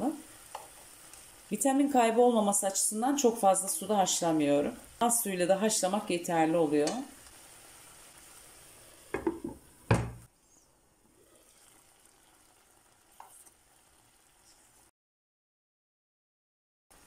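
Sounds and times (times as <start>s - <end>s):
water simmering in a pan: 0.0s - 10.2s, 11.0s - 14.9s.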